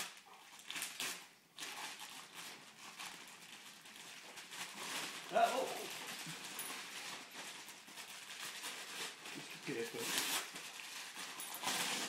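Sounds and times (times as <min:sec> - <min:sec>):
wrapping paper crinkling and tearing: 0:00.0 - 0:12.0.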